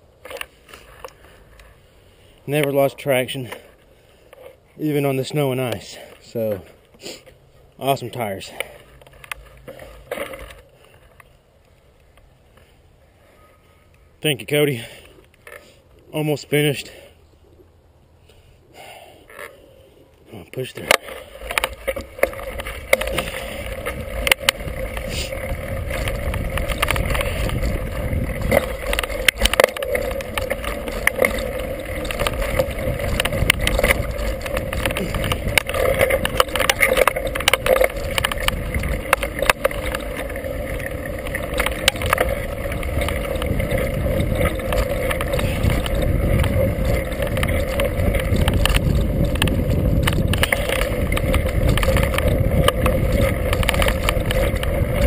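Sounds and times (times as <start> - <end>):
bike clicking and rattling: 0.0 - 17.0, 18.9 - 55.0
bike tires rolling on dirt: 0.0 - 17.2, 18.4 - 55.0.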